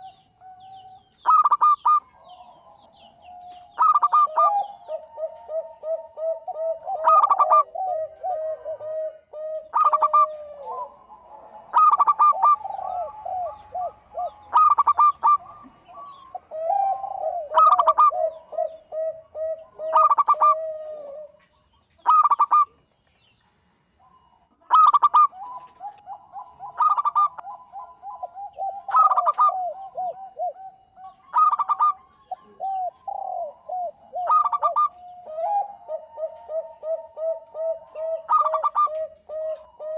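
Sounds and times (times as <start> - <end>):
doves cooing: 0.0 - 22.9, 24.0 - 39.9.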